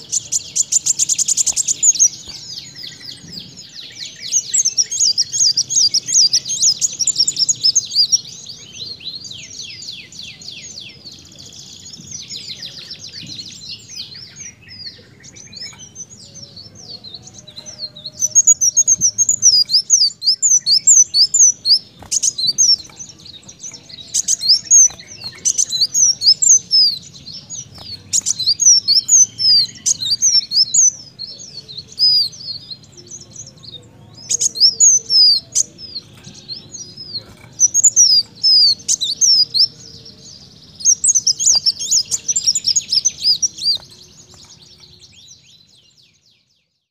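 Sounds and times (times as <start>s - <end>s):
bird twittering song: 0.0s - 46.9s.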